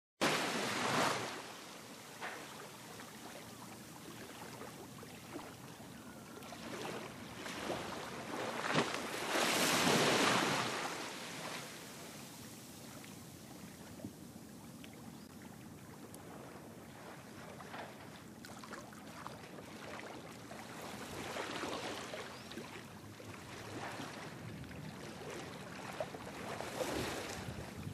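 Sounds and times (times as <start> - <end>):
wind and surf hiss: 0.2 - 27.9.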